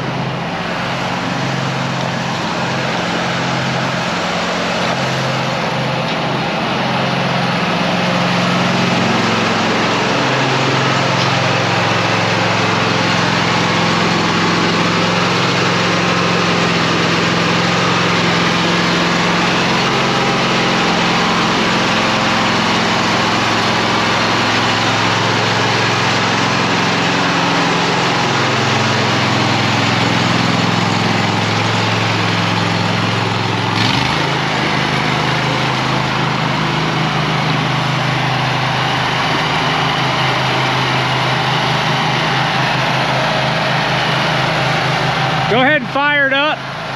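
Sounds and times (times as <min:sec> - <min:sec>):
mower engine running: 0:00.0 - 0:46.9.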